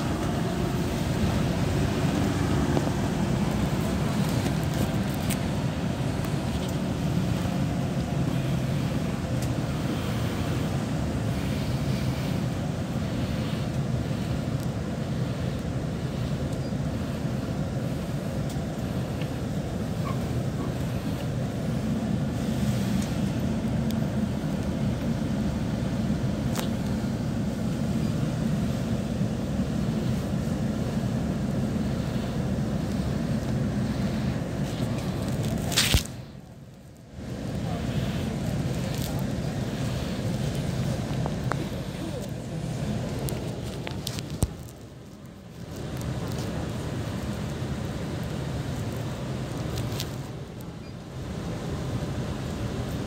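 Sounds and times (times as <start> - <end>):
bus engine rumble: 0.0 - 53.0.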